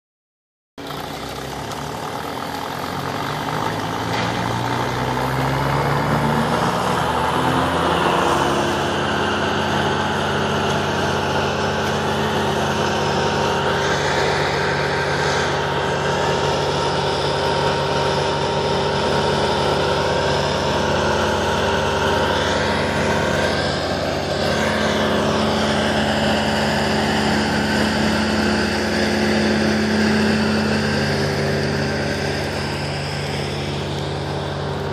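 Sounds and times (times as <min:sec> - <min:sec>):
wood chipper engine running: 0:00.8 - 0:34.9.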